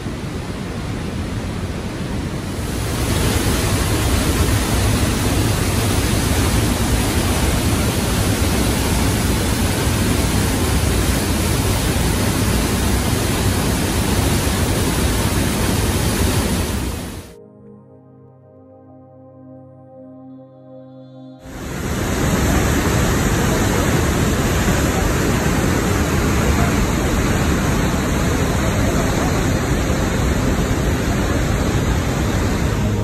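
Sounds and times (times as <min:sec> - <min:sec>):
waterfall thundering: 0:00.0 - 0:17.4, 0:21.5 - 0:33.0.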